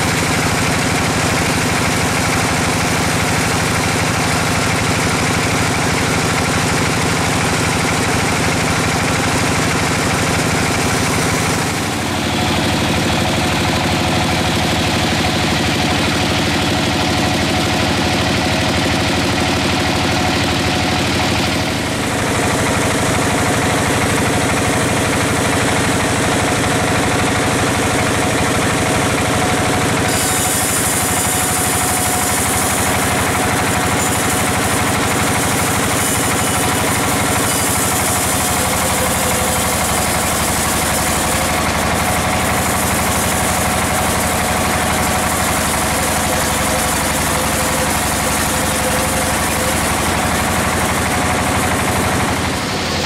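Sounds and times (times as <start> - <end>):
sawmill machine hum: 0.0 - 53.0.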